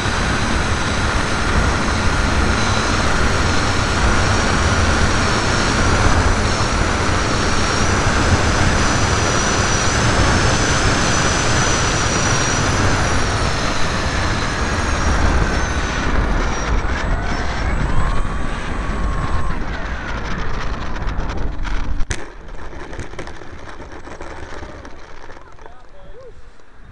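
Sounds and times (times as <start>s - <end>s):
model plane motor whine: 0.0s - 26.9s
wind rushing over camera: 0.0s - 26.9s.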